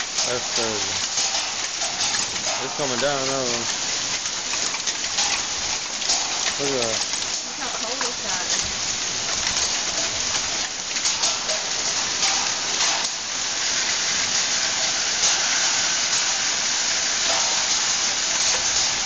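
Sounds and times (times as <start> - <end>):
hail and rain pelting down: 0.0 - 19.0
hailstones ticking: 0.0 - 19.0.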